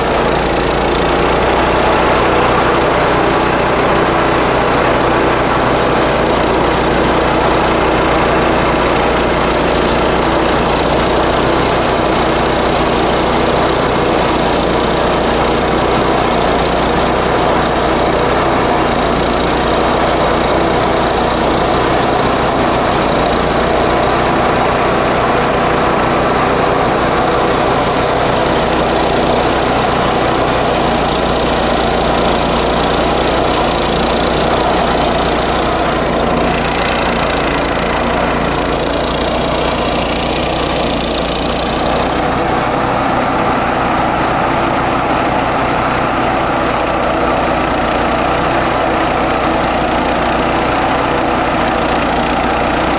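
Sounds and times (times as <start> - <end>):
rice thresher engine humming: 0.0 - 52.9.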